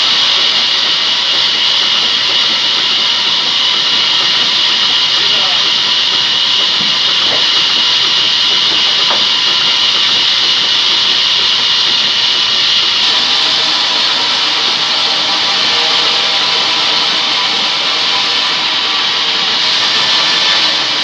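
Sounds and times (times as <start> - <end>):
band saw hissing: 0.0 - 21.0.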